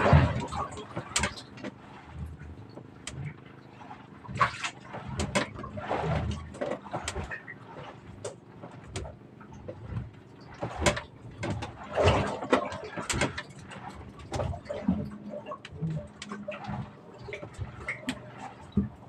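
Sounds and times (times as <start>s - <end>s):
gear knocking and clicking: 0.0s - 19.0s.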